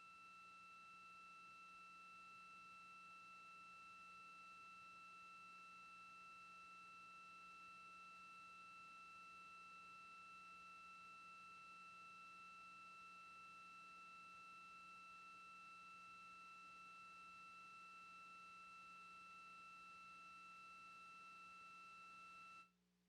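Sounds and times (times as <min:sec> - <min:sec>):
faint electronic whine: 0:00.0 - 0:22.7.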